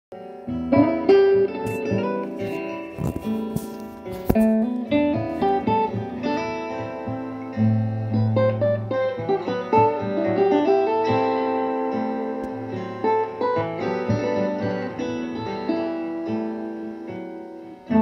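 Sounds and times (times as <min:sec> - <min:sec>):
plucked string melody: 0:00.2 - 0:18.0.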